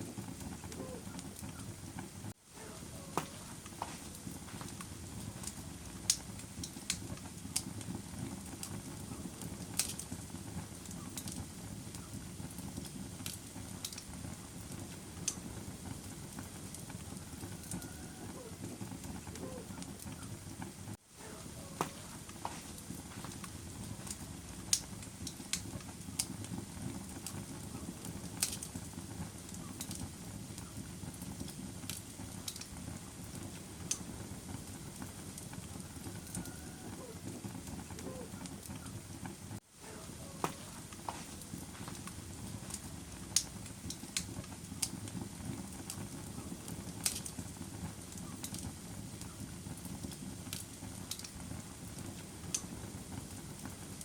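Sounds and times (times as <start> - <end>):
fire crackling and popping: 0.0 - 54.0
low rush of fire: 0.0 - 54.0.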